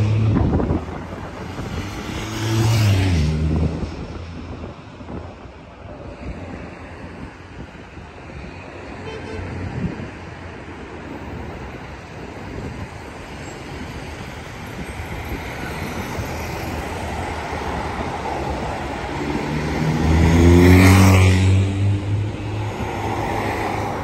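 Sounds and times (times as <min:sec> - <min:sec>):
cars driving past: 0:00.0 - 0:05.2, 0:05.9 - 0:24.0.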